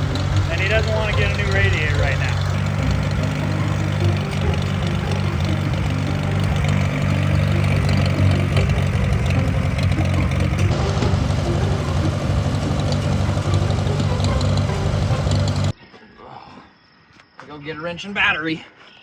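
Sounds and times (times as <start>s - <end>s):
tractor engine idling: 0.0s - 15.7s.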